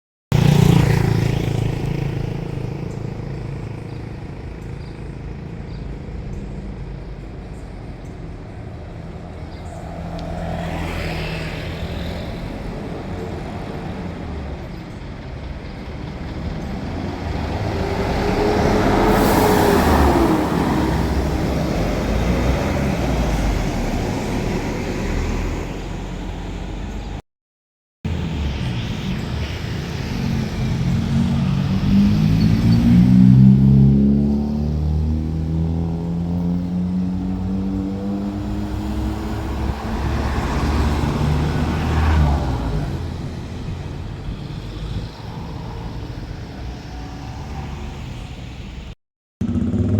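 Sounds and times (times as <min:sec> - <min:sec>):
traffic passing on a road: 0:00.3 - 0:27.2, 0:28.1 - 0:49.9.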